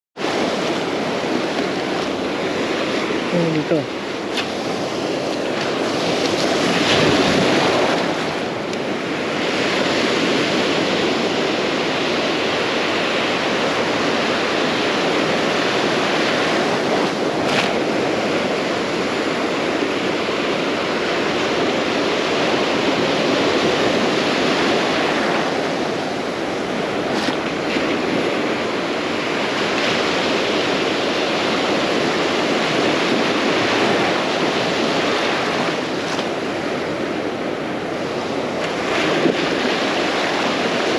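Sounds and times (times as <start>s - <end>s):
ocean waves breaking: 0.2s - 40.9s
wind on microphone: 0.2s - 40.9s.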